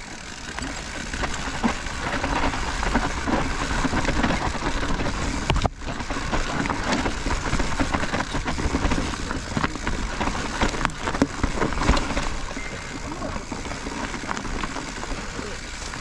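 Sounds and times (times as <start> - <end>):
bike rattling and clacking: 0.0 - 16.0
bike tyres on dirt trail: 0.0 - 16.0.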